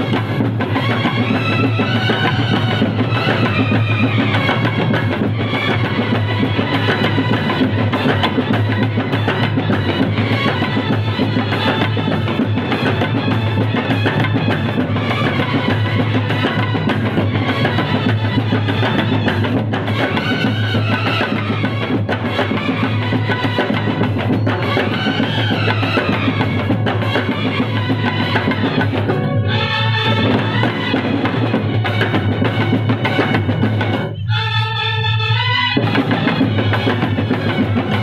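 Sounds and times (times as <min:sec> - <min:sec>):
bass drum: 0:00.0 - 0:34.1
side drums: 0:00.0 - 0:34.3, 0:35.8 - 0:38.0
brass horns playing melody: 0:00.0 - 0:38.0.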